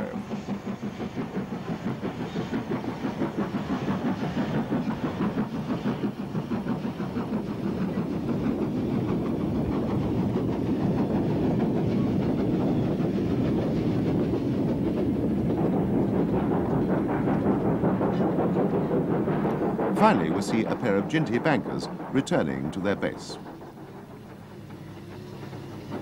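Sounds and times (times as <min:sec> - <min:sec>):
steam locomotive exhaust beats: 0:00.0 - 0:26.0.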